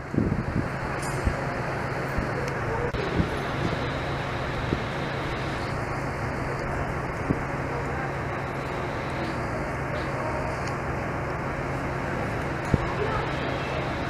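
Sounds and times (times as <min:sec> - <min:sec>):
low hum: 0:00.0 - 0:14.0
road traffic rumble: 0:00.0 - 0:14.0.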